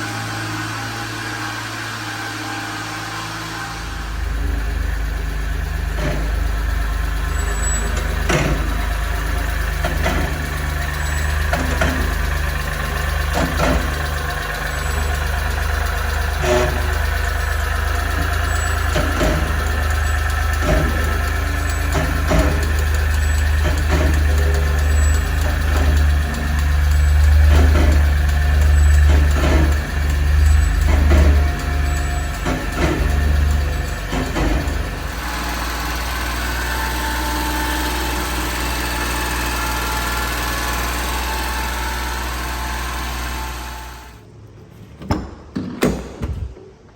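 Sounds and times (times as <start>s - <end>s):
truck engine idling: 0.0s - 44.3s.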